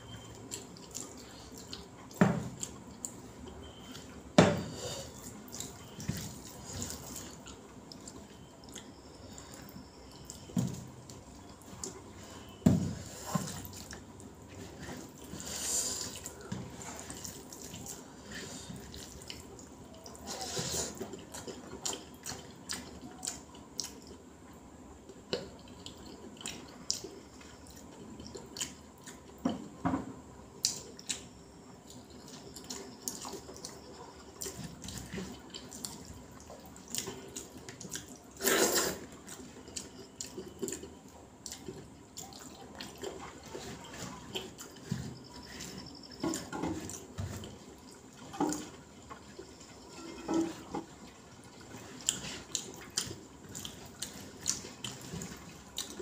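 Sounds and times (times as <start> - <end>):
chewing and lip-smacking: 0.1 - 4.1, 5.1 - 12.6, 13.4 - 24.3, 25.0 - 29.5, 30.6 - 49.8, 50.9 - 56.0.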